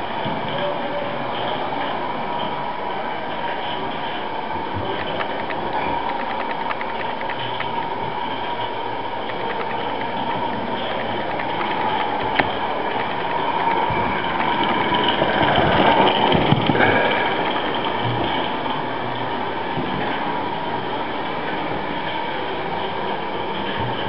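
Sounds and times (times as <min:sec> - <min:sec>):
model locomotive running: 0:00.0 - 0:24.0
rapid rhythmic clicking: 0:03.2 - 0:24.0.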